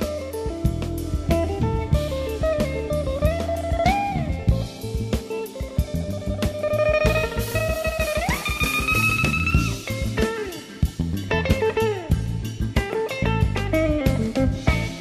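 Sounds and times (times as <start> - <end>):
bass and drum kit: 0.0 - 15.0
electric blues guitar solo: 0.0 - 15.0.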